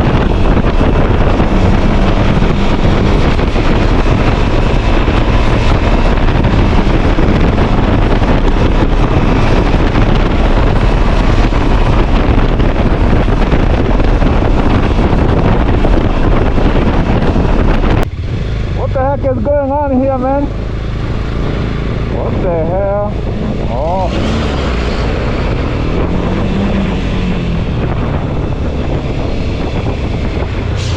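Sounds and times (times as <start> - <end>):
motorcycle engine running: 0.0 - 30.9
road noise: 0.0 - 30.9
wind rush on microphone: 0.0 - 30.9.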